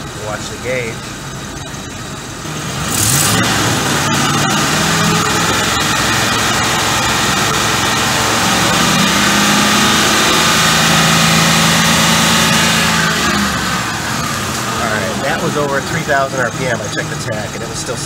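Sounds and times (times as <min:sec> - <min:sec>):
truck engine at high revs: 0:00.0 - 0:18.0.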